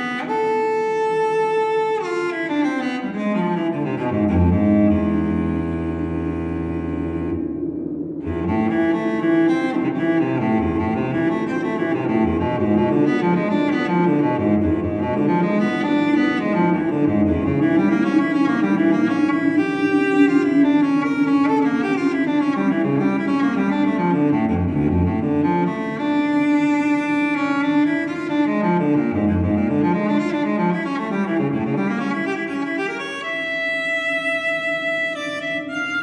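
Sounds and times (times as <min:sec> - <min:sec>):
low bowed strings music: 0:00.0 - 0:36.0.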